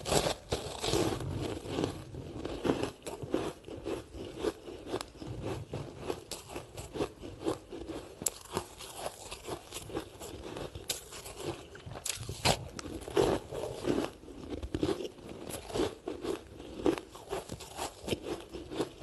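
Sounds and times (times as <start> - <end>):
ice being bitten and chewed: 0.0 - 19.0.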